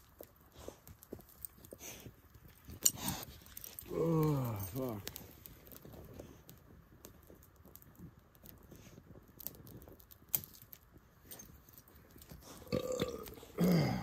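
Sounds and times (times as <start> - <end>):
fire pops and snaps: 0.0 - 14.0
twig fire crackling: 0.0 - 14.0.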